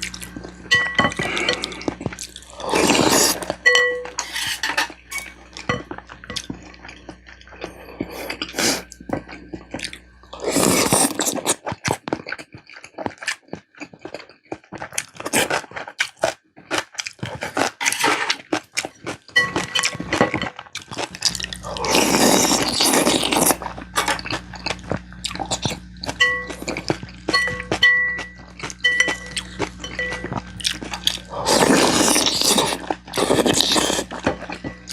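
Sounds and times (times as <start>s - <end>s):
chewing with wet clicks: 0.0s - 2.6s, 5.5s - 17.8s, 18.5s - 34.9s.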